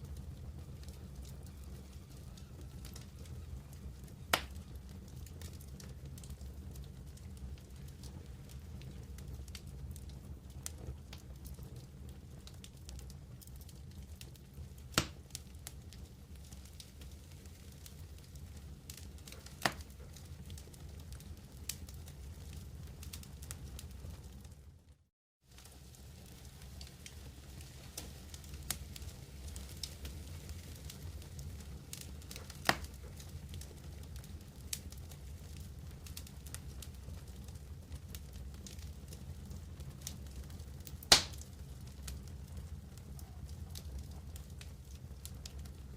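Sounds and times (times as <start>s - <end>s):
campfire crackling: 0.0s - 24.7s, 25.5s - 45.9s
fire pops: 0.1s - 24.5s, 25.5s - 45.9s.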